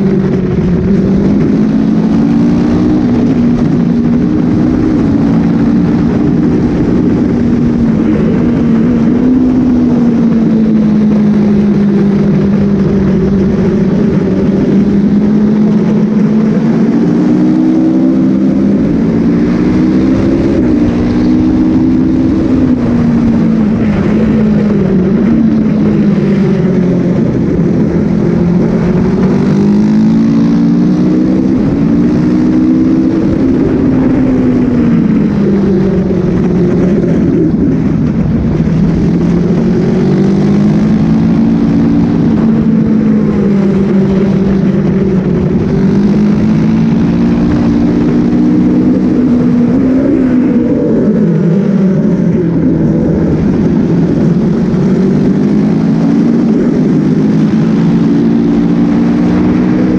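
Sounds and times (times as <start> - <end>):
motorcycle engine revving: 0.0 - 59.9
wind on microphone: 0.0 - 59.9.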